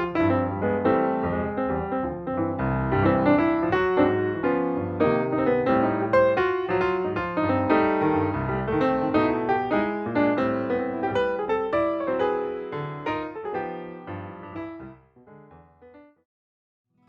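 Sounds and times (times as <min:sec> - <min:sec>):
piano music: 0:00.0 - 0:16.2.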